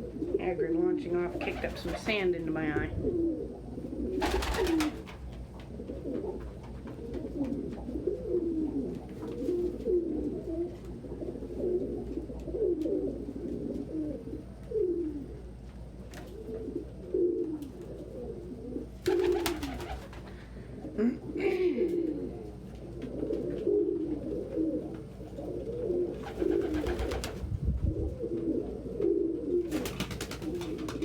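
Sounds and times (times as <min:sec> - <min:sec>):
pigeons cooing: 0:00.0 - 0:31.0.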